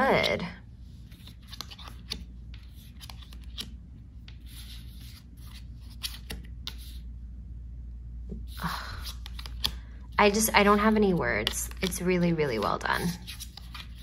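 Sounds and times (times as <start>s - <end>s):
playing cards rustling and sliding: 0.0s - 7.1s, 8.3s - 14.0s.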